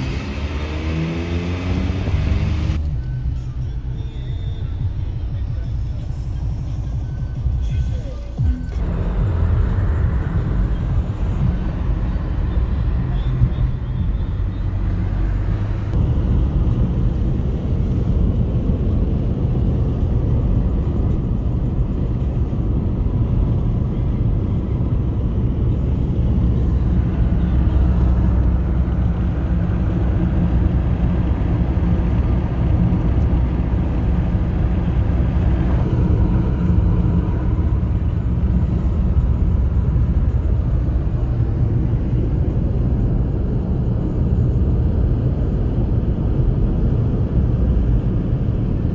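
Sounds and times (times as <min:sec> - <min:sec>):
car engine running at speed: 0:00.0 - 0:48.9
tyre and road noise: 0:00.0 - 0:48.9.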